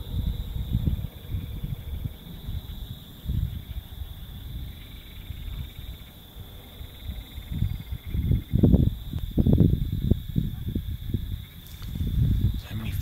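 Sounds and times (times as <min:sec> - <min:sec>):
gusty low rumbling: 0:00.0 - 0:13.0
night insects chirring: 0:00.0 - 0:13.0.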